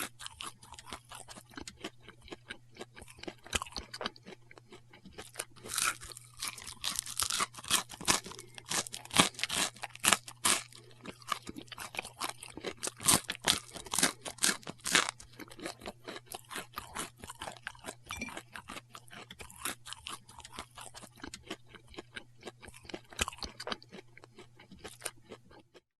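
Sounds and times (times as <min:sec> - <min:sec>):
man chewing food: 0:00.0 - 0:25.8.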